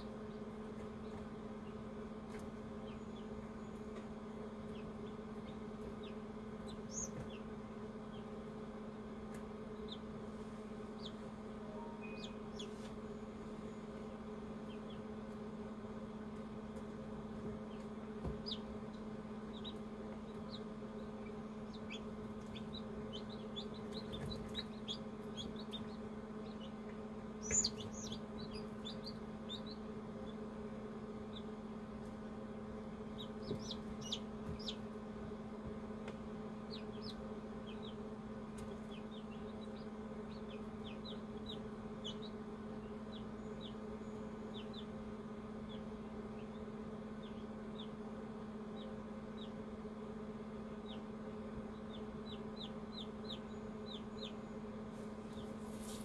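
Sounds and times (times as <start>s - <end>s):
chicks peeping: 0.0s - 56.0s
incubator electric hum: 0.0s - 56.0s.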